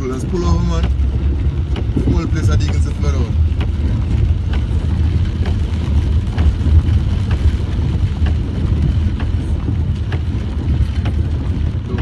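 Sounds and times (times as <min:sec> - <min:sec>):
car engine and road rumble: 0:00.0 - 0:12.0
faint regular ticking: 0:00.0 - 0:12.0.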